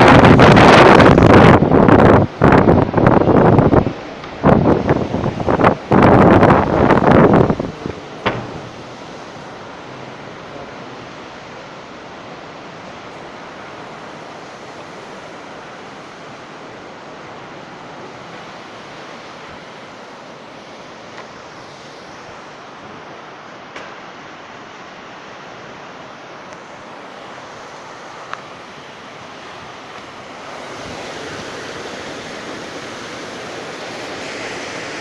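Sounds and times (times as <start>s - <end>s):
heavy rain: 0.0s - 35.0s
strong wind: 0.0s - 35.0s.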